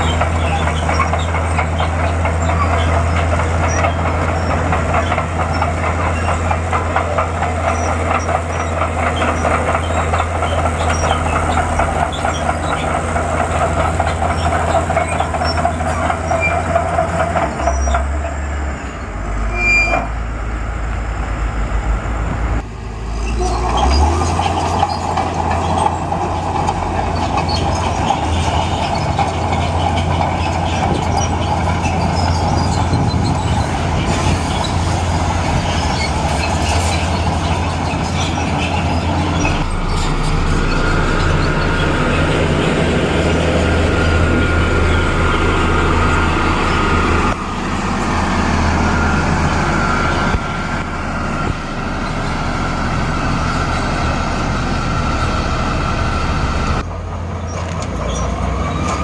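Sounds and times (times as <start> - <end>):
steel tracks clattering and squeaking: 0.0 - 20.3, 23.0 - 59.0
bulldozer diesel engine: 0.0 - 59.0.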